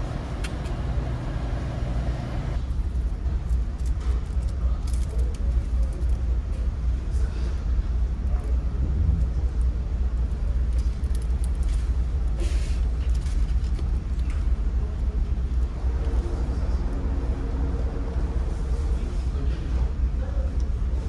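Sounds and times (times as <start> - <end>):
low rumble of ship engines: 0.0 - 21.0.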